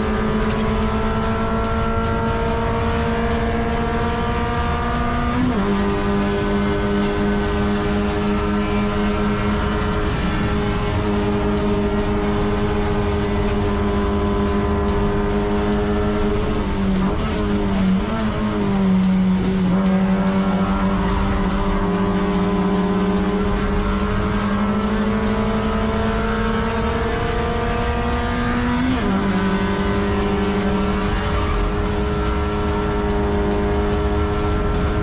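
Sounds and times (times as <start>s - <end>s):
race car engine accelerating: 0.0s - 35.0s.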